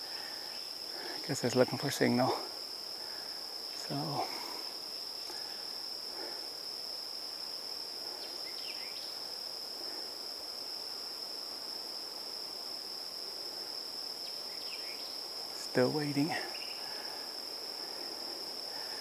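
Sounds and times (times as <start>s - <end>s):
faint outdoor background noise: 0.0s - 19.0s
insects trilling: 0.0s - 19.0s.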